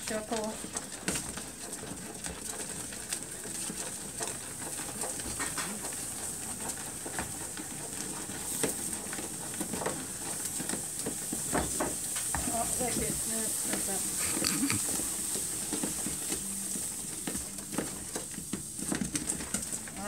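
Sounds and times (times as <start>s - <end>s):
liquid nitrogen hissing and boiling: 0.0s - 20.0s.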